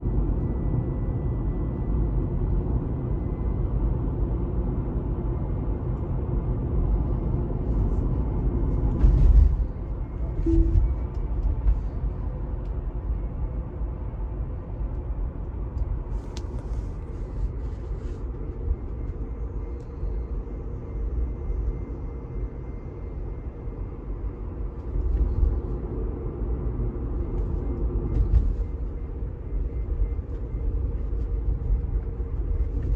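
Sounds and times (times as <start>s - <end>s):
low road rumble: 0.0s - 32.9s.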